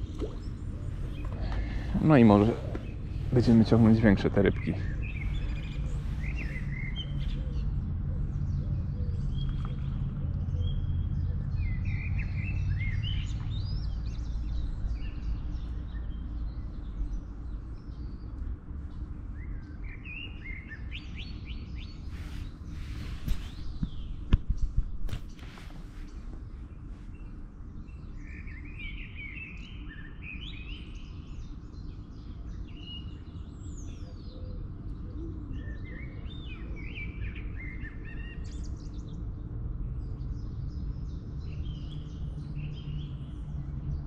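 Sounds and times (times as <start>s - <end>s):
small birds chirping: 0.0s - 44.0s
steady low rumble: 0.0s - 44.0s.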